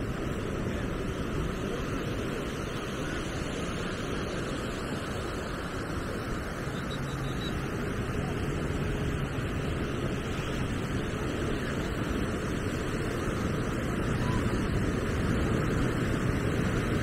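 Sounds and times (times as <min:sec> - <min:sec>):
surf washing: 0:00.0 - 0:17.0.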